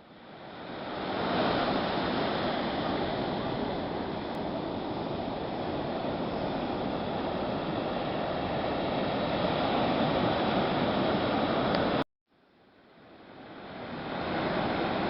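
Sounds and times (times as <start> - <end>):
ocean waves breaking on beach: 0.0 - 12.0, 12.8 - 15.0.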